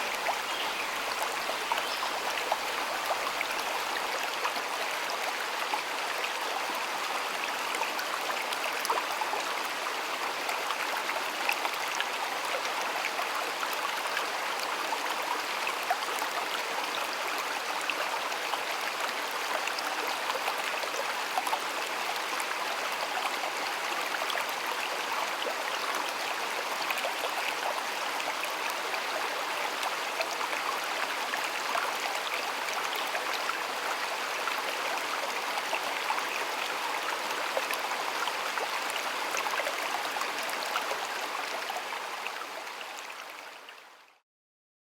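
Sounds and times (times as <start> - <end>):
stream water babbling: 0.0 - 44.2.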